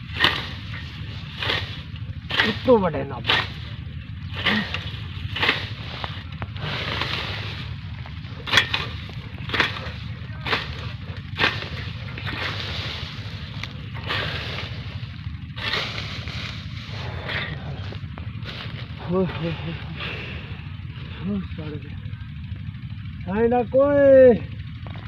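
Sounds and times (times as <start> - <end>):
blade swishing through grass: 0.0 - 21.0
grass rustling: 0.0 - 23.0
low rumble: 0.0 - 25.0.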